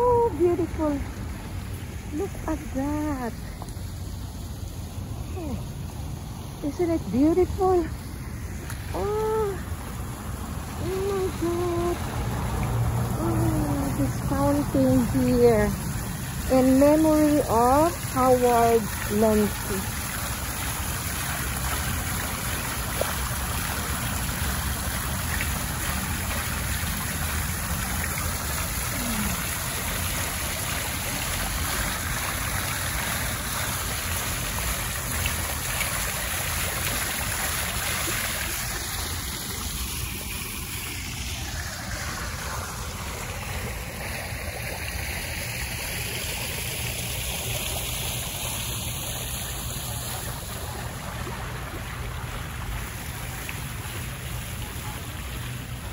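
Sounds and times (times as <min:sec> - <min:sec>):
fountain water splashing: 0:00.0 - 0:55.9.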